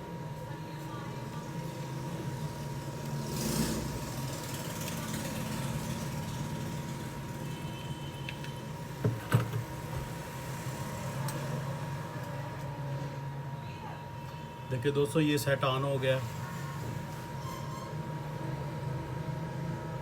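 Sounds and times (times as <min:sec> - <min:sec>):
steady low hum with high tone: 0:00.0 - 0:20.0.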